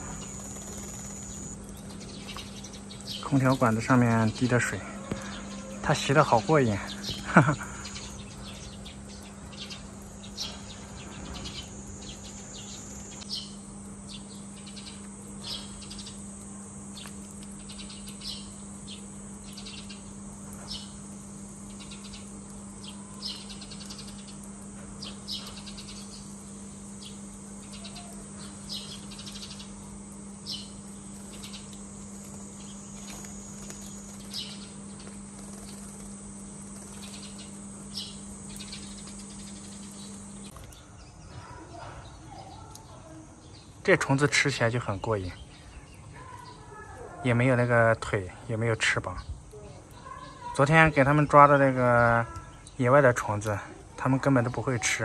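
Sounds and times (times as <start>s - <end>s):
sparrows chirping: 0.0s - 55.0s
steady low hum: 0.0s - 55.0s.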